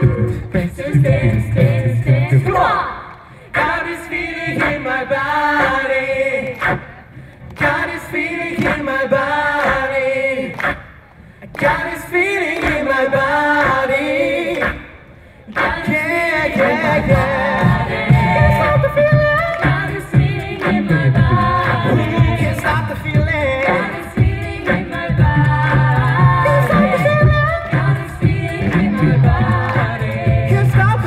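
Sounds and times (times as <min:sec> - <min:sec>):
a cappella group singing: 0:00.0 - 0:31.0.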